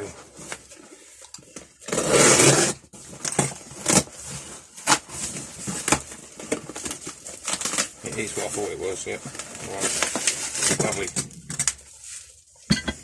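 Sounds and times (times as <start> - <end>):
packaging rustling and tearing: 1.8 - 12.3.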